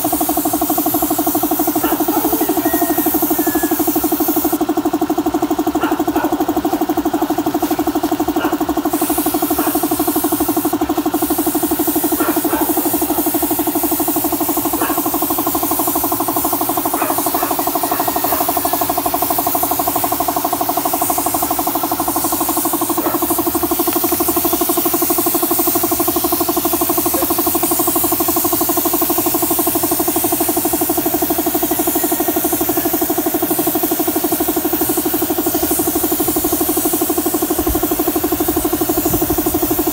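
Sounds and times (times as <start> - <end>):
air compressor pulsing: 0.0 - 39.9
spray gun hissing: 0.0 - 39.9.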